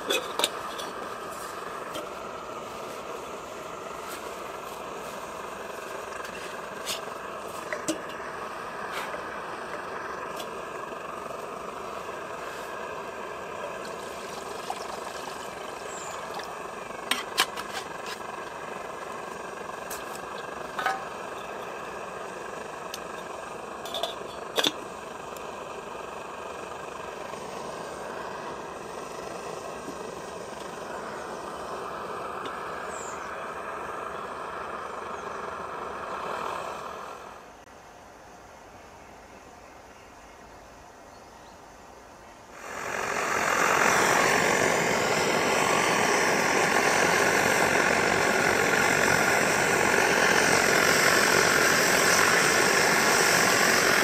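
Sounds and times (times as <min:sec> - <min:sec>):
stove burner rushing: 0:00.0 - 0:37.4, 0:42.6 - 0:54.0.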